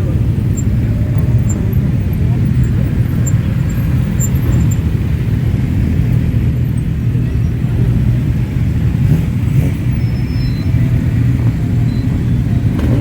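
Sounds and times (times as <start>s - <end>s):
motorcycle engines rumbling: 0.0s - 13.0s.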